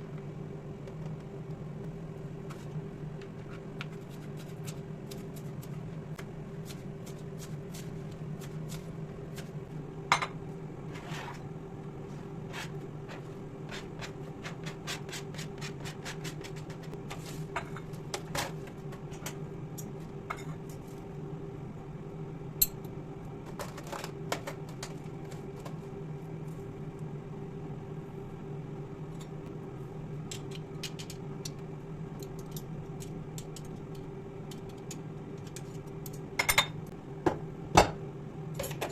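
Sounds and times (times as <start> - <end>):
low appliance hum: 0.0 - 38.9.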